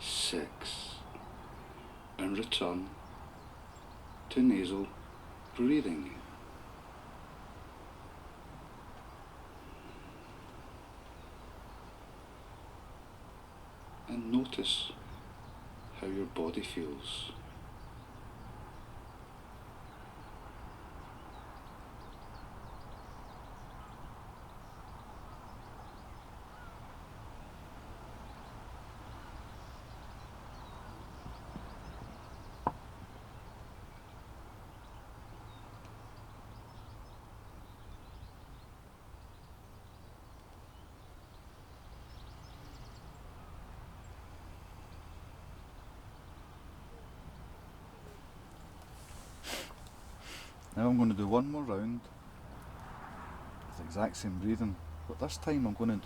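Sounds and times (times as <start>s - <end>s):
seaside ambience: 0.0s - 56.0s.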